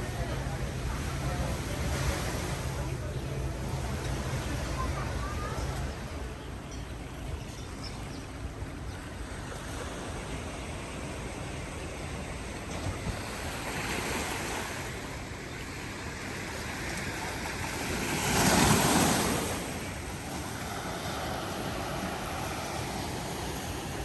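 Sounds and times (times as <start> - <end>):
ocean waves washing in: 0.0 - 6.6, 8.4 - 24.0.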